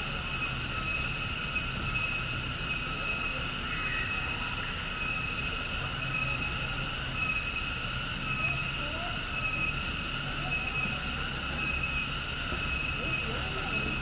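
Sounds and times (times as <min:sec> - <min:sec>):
cicadas calling: 0:00.0 - 0:14.0.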